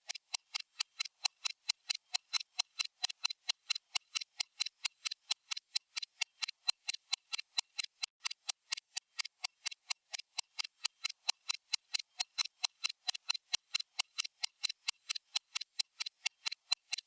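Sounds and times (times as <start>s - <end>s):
stopwatch ticking: 0.0s - 17.0s.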